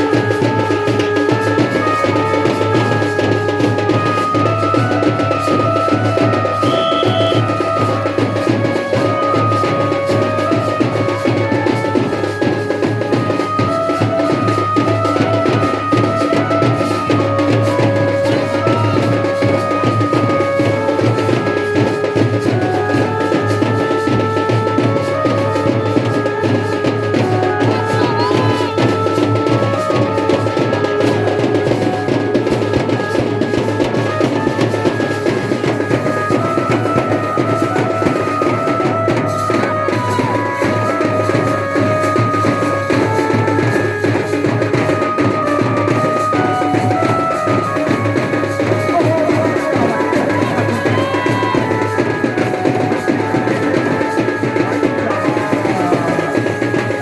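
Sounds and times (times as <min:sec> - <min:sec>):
fast dense drumming: 0:00.0 - 0:57.0
melody of held notes: 0:00.0 - 0:57.0.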